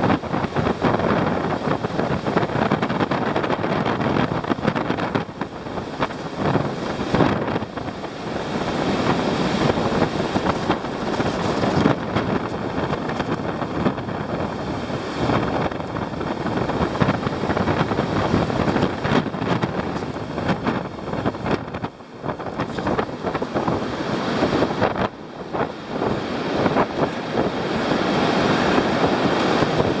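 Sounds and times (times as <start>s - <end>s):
surf rushing: 0.0s - 30.0s
wind buffeting microphone: 0.0s - 30.0s.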